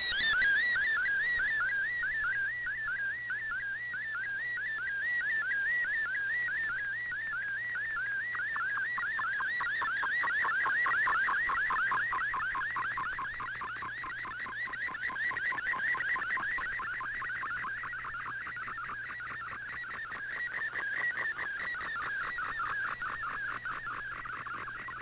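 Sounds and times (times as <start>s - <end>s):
faint steady hum: 0.0s - 25.0s
warbling radio tone: 0.0s - 25.0s.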